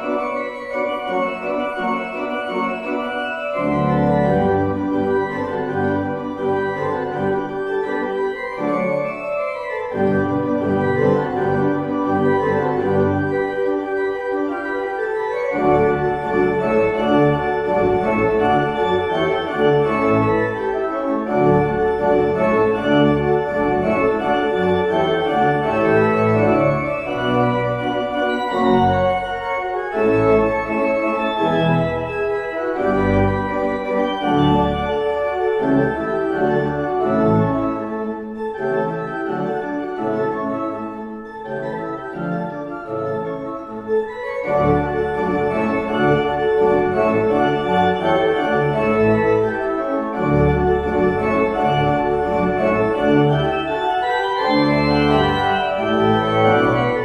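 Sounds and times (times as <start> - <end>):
pipe organ chords: 0.0 - 57.0.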